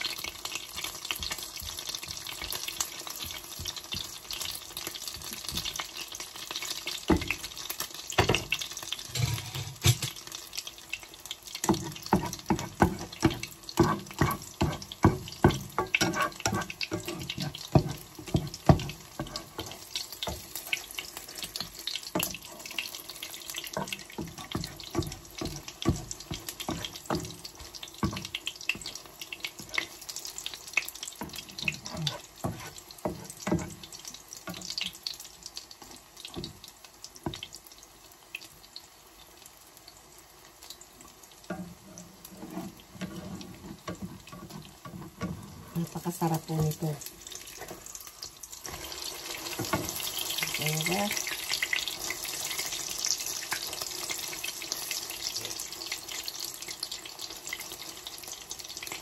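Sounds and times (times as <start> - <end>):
oil sizzling and popping: 0.0 - 59.0.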